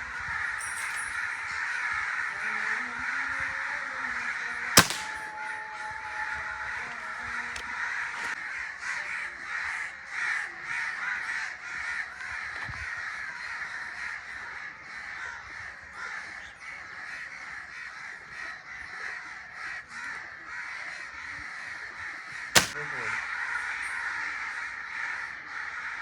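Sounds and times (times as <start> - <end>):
crows cawing: 0.0 - 26.0.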